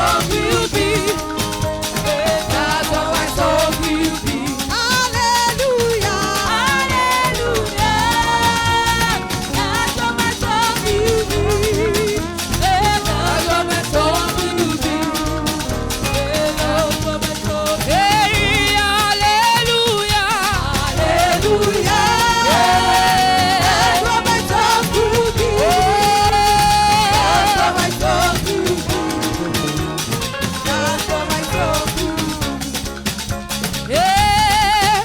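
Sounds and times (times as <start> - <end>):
percussion groove: 0.0 - 35.0
steady bass: 0.0 - 35.0.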